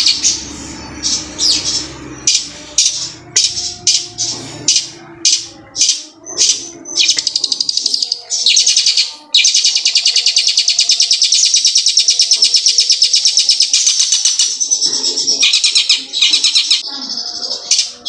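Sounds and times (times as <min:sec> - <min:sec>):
bird singing rapid trill: 0:00.0 - 0:18.0.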